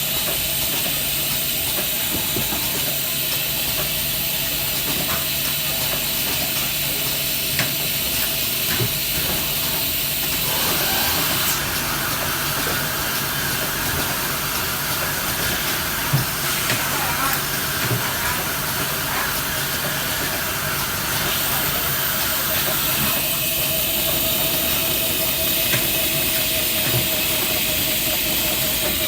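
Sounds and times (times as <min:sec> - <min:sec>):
tape-cutting machine hiss: 0:00.0 - 0:29.0.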